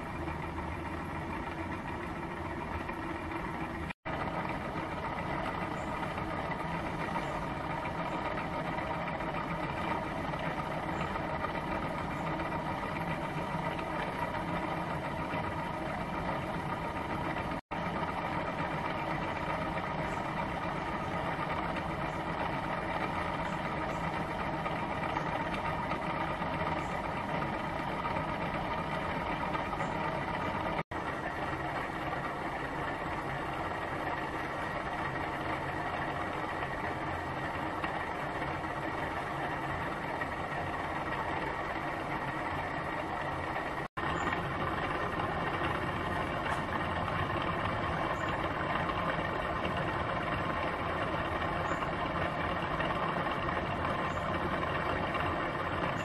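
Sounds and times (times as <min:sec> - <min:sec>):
engine mechanical whirr: 0:00.0 - 0:56.0.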